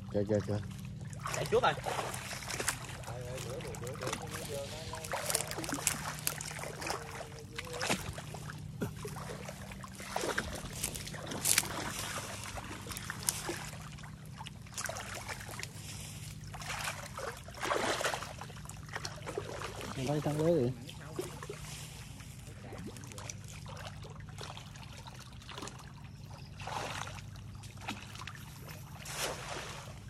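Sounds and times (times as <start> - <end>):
water sloshing from wading: 0.0 - 30.0.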